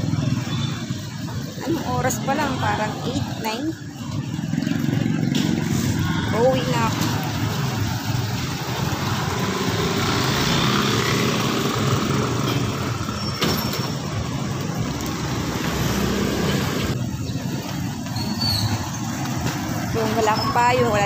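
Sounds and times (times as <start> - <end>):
passing road traffic: 0.0 - 21.0.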